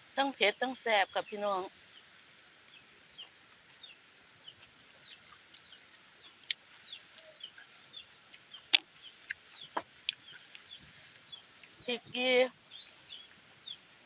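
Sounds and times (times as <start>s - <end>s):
chickens peeping: 2.7s - 14.0s.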